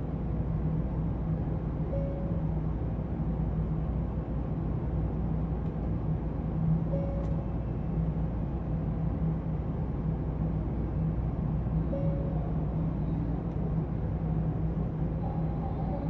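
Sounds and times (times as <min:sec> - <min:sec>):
train hum and rumble: 0:00.0 - 0:16.0.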